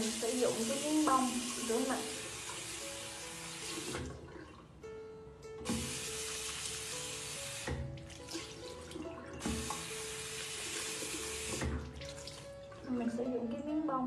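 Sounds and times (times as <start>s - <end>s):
tap water pouring into sink: 0.0s - 4.7s, 5.6s - 13.3s
background music: 0.0s - 14.0s.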